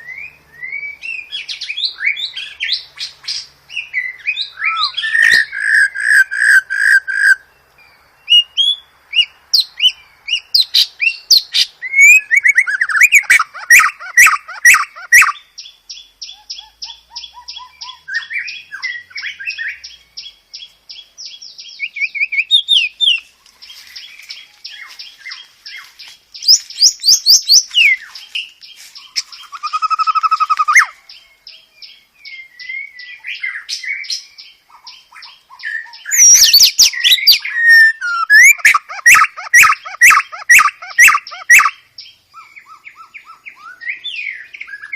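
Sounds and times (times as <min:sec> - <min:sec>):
bird song with whistled phrases: 0:00.0 - 0:44.9.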